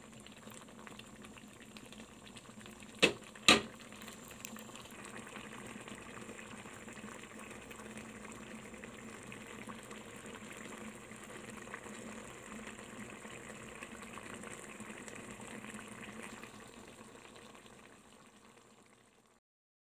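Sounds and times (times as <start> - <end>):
sauce bubbling in a pan: 0.0 - 19.4.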